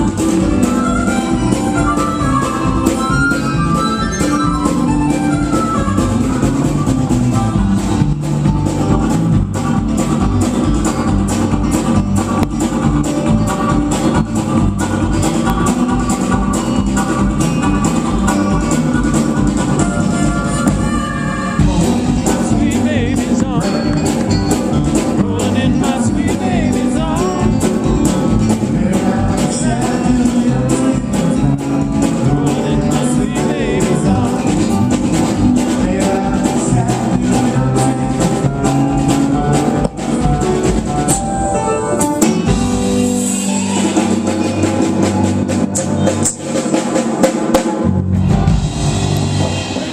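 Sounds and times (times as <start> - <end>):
drum kit beat: 0.0 - 49.9
live band with singing: 0.0 - 49.9.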